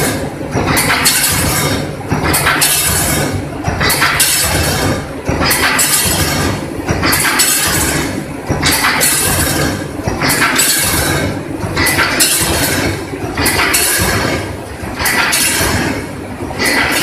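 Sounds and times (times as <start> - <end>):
hissing clatter: 0.0 - 17.0
welding machine running: 0.0 - 17.0.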